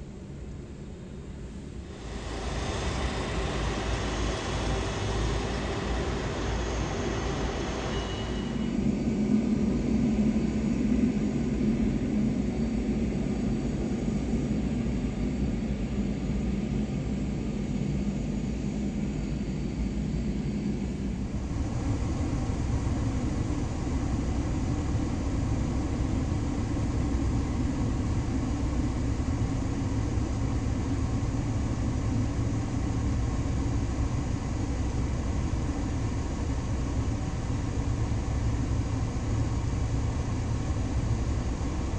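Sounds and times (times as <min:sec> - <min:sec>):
jet engines rumbling: 0:01.8 - 0:41.9.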